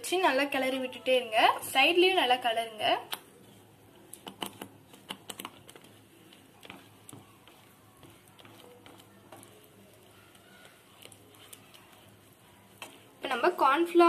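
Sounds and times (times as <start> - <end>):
spatula scraping pan: 2.6 - 14.0.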